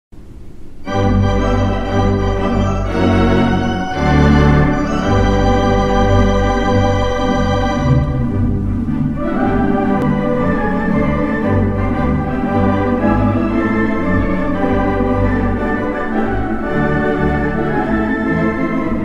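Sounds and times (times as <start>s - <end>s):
organ playing slow chords: 0.8s - 19.0s.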